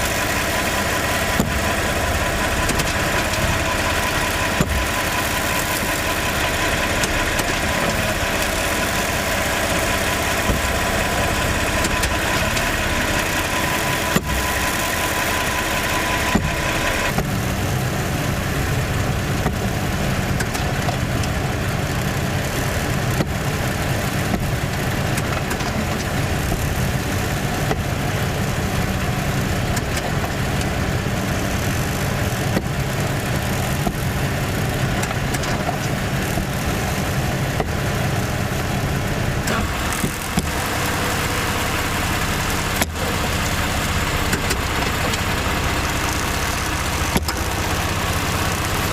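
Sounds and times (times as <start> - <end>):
car engine running: 0.0 - 48.9.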